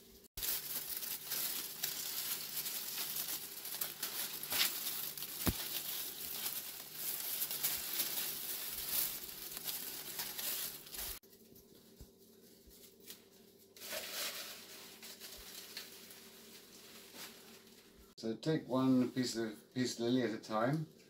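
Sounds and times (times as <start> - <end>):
dry leaves crackling: 0.0 - 18.1.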